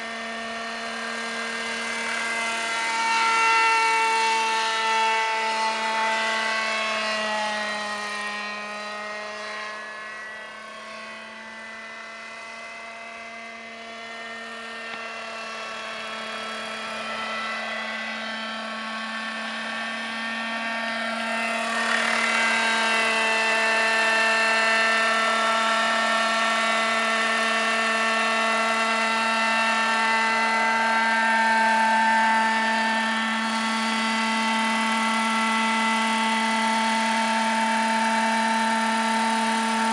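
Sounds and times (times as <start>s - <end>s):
model helicopter engine and rotors: 0.0s - 39.9s.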